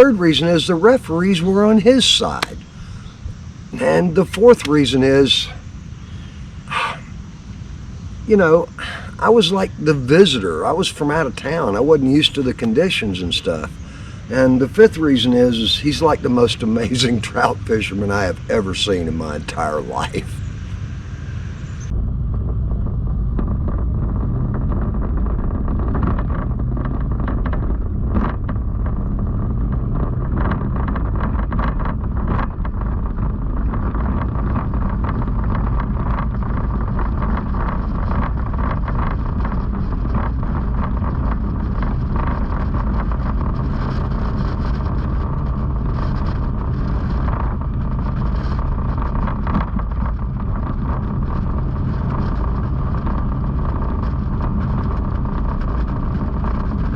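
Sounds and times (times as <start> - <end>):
motorcycle engine running: 0.0 - 56.9
road noise: 0.0 - 56.9.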